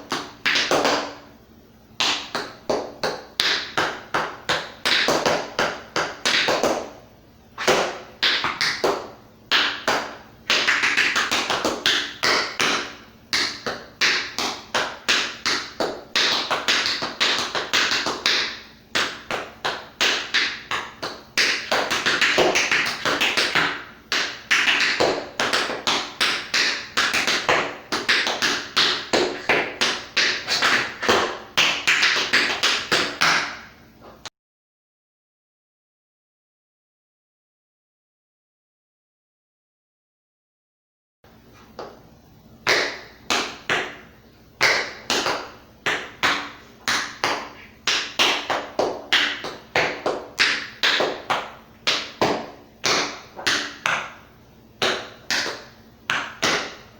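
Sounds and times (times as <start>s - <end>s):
tap shoes on hard floor: 0.0s - 1.2s, 2.0s - 7.0s, 7.6s - 34.3s, 42.7s - 54.2s, 54.8s - 56.9s.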